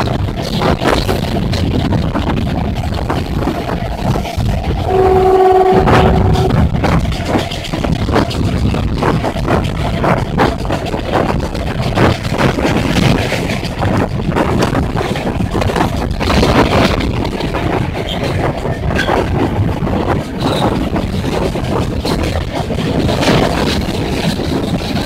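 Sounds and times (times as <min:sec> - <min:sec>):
train running at speed: 0:00.0 - 0:25.0
wind rushing over microphone: 0:00.0 - 0:25.0.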